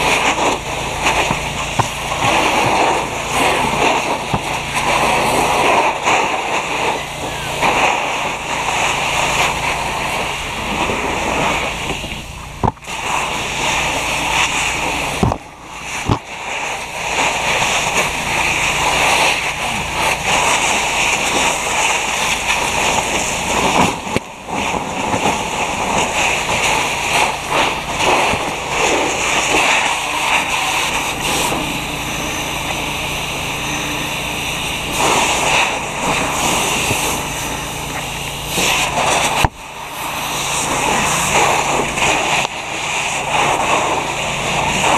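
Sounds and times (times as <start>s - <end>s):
water spraying on hot metal: 0.0s - 44.9s.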